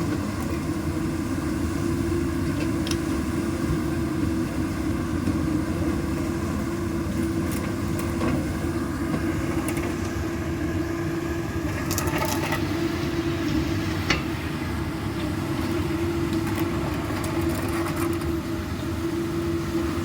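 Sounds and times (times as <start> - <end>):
excavator diesel engine rumbling: 0.0 - 20.0.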